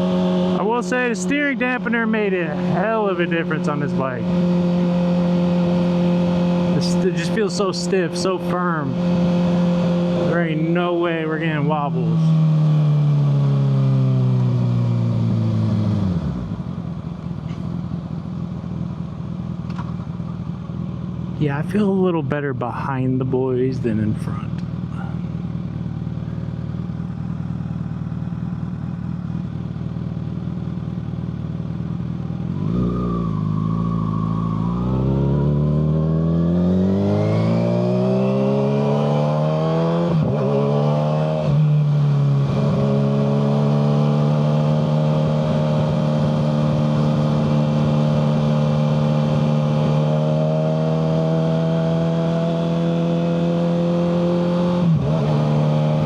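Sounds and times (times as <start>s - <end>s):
motorcycle engine revving: 0.0s - 22.2s, 24.0s - 56.0s.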